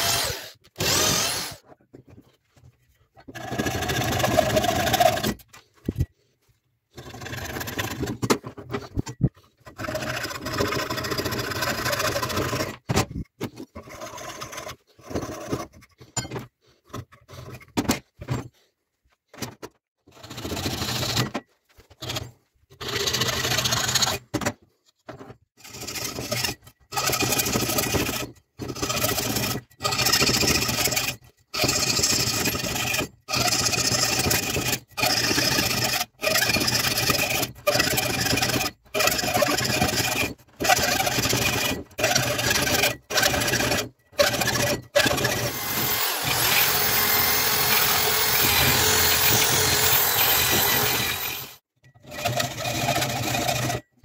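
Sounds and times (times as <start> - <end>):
hacksaw sawing wood: 0.0 - 1.8, 3.2 - 6.2, 6.9 - 18.7, 20.0 - 24.6, 25.6 - 54.0.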